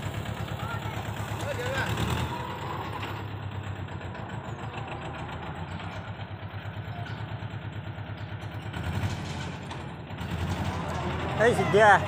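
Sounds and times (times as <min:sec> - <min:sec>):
small diesel engine running: 0:00.0 - 0:12.0.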